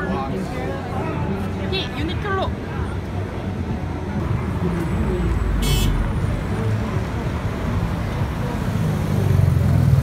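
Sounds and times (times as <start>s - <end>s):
cars passing with low rumble: 0.0s - 10.0s.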